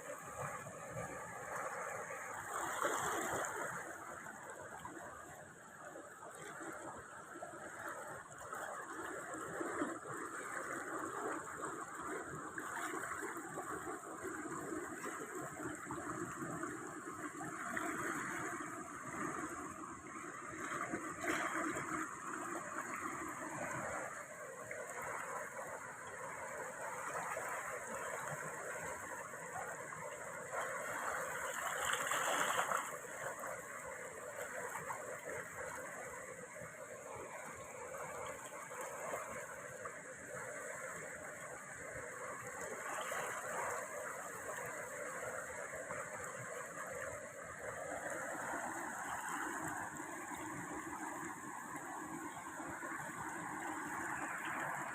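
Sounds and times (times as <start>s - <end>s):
stream water rushing and gurgling: 0.0s - 54.9s.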